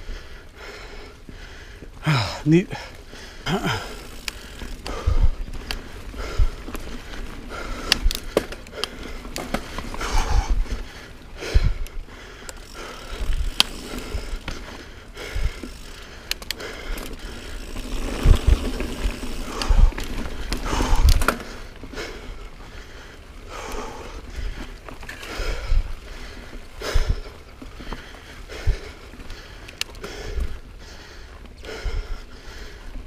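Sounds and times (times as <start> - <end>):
bike tyre noise on dirt trail: 0.0 - 33.0
bike clicks and rattles: 2.7 - 33.0.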